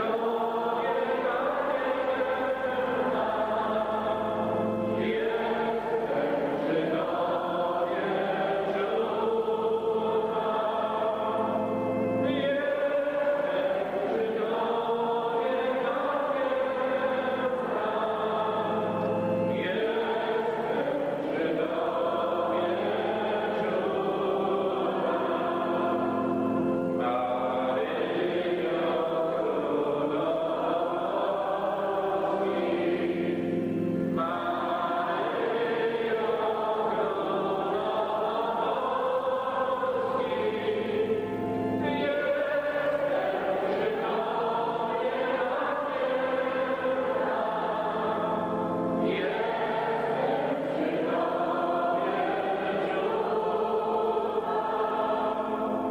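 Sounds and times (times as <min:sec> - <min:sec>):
group singing a hymn: 0:00.0 - 0:55.9.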